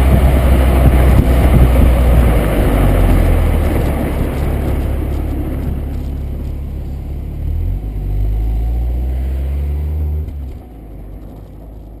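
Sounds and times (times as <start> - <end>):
car engine and exhaust running: 0.0 - 12.0.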